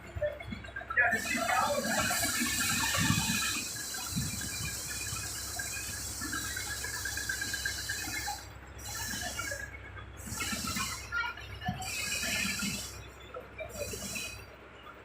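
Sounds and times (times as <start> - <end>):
moving vehicle rumble and hiss: 0.0 - 15.0.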